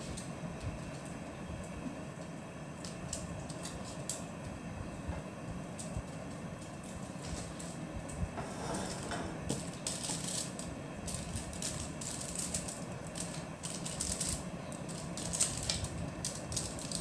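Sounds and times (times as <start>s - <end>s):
aluminium foil crinkling: 0.0s - 4.6s, 5.6s - 8.2s, 9.5s - 17.0s.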